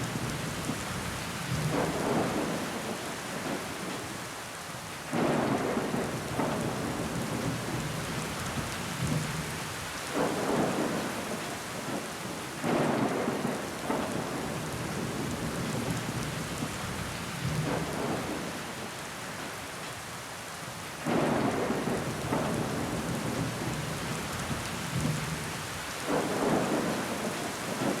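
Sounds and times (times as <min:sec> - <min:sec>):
rain against a window: 0:00.0 - 0:28.0.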